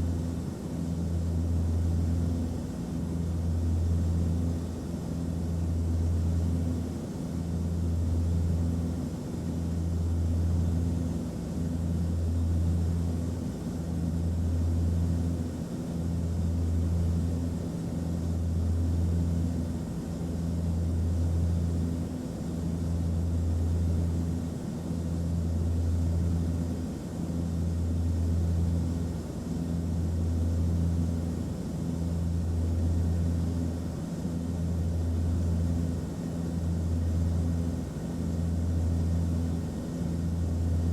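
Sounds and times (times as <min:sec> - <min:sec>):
airplane engine drone: 0:00.0 - 0:40.9.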